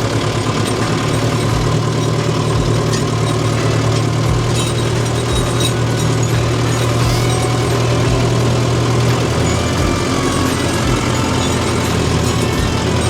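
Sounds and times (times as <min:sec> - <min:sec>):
faint clicks and rattles: 0:00.0 - 0:13.0
tractor diesel engine running: 0:00.0 - 0:13.0.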